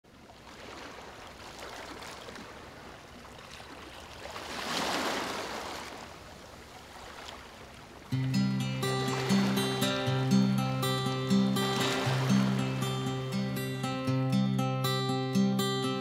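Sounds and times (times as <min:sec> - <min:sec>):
sea waves washing ashore: 0:00.2 - 0:16.0.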